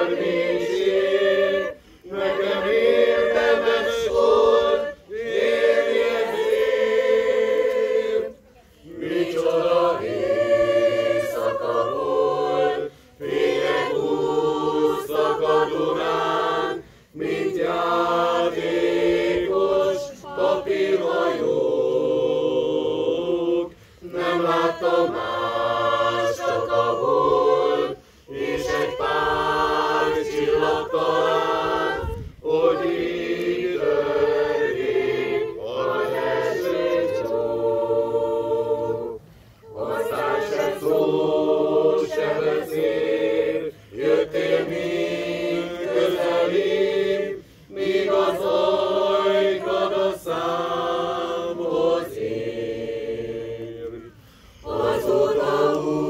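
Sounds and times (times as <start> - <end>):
mixed choir singing unaccompanied: 0.0 - 56.0.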